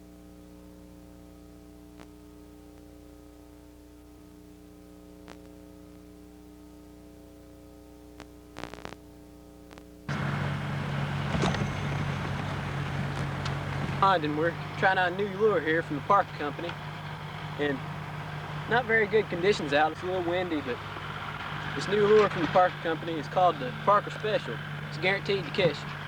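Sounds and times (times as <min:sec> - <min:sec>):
faint electrical hum: 0:00.0 - 0:26.0
low steady hum: 0:00.0 - 0:26.0.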